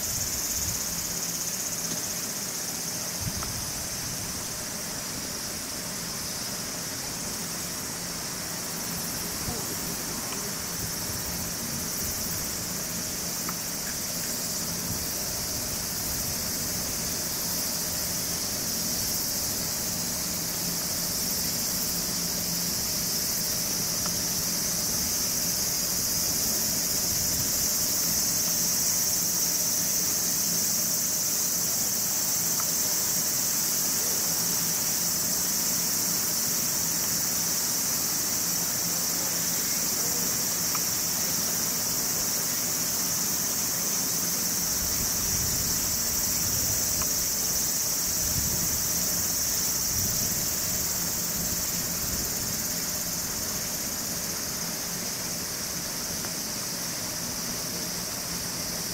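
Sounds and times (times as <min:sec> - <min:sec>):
insects chirring in grass: 0:00.0 - 0:58.9.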